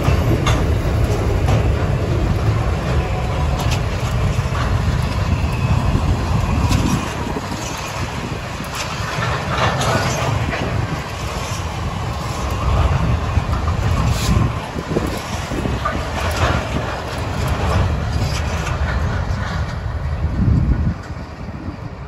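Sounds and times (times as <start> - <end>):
train wagon clanks: 0.0 - 22.0
train wheels rumbling on rails: 0.0 - 22.0.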